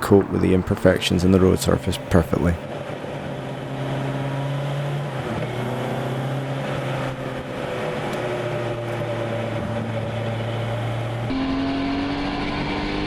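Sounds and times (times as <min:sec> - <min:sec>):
road and wind noise: 0:00.0 - 0:13.0
sports car engine running: 0:00.0 - 0:13.0.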